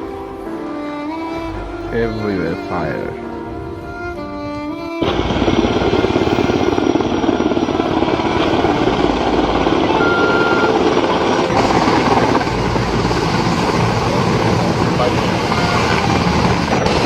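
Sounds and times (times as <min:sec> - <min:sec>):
helicopter rotor chopping: 0:01.2 - 0:17.0.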